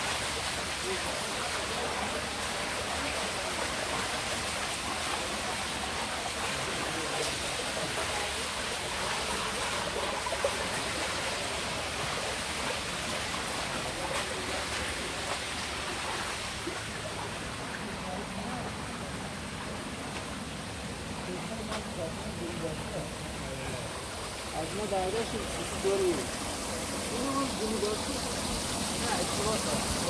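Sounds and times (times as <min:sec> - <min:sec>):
paddlewheels churning water: 0:00.0 - 0:30.0.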